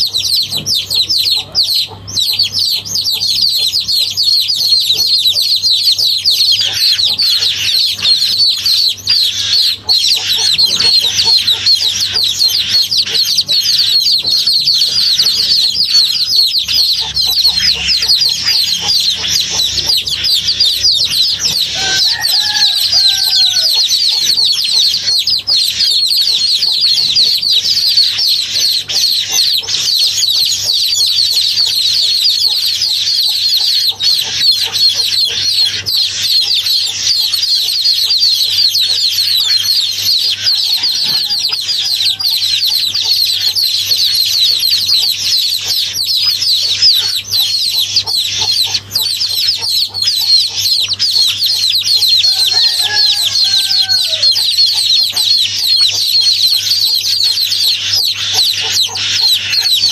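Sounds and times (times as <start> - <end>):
steady low hum: 0.0 - 59.6
birds chirping: 0.0 - 59.9.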